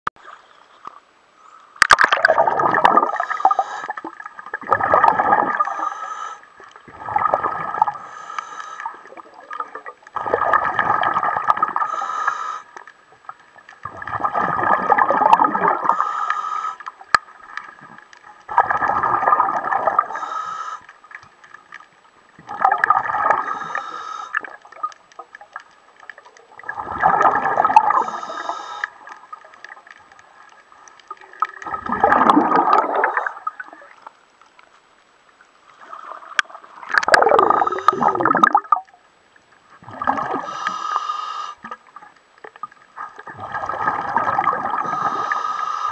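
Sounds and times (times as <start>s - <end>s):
underwater gurgling and bubbling: 1.8s - 34.4s, 35.7s - 45.9s.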